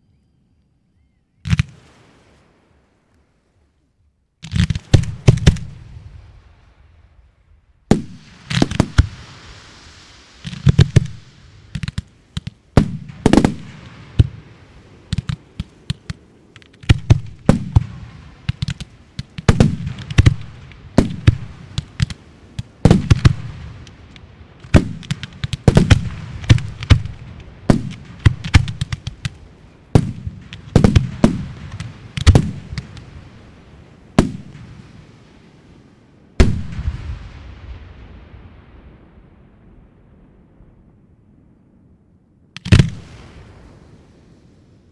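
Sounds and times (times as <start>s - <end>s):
low rolling echo: 0.0s - 44.9s
fireworks bursting with bangs: 1.5s - 2.4s, 4.4s - 7.2s, 7.9s - 39.4s, 42.6s - 44.1s.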